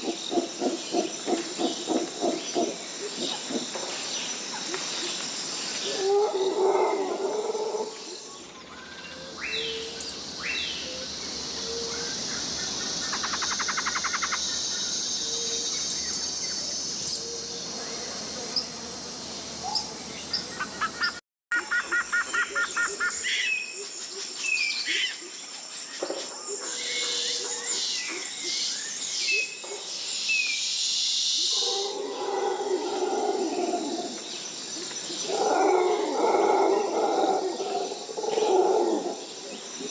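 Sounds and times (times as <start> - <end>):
high hum of insects: 0.0 - 39.9.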